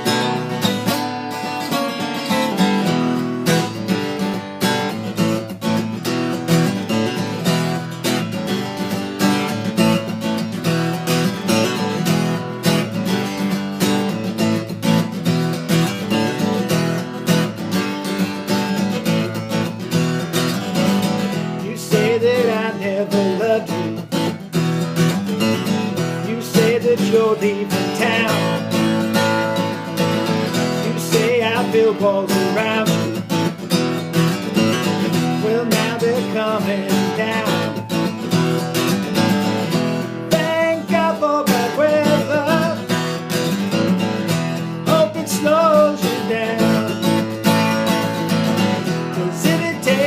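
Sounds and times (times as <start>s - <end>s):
acoustic guitar strumming chords: 0.0s - 50.0s.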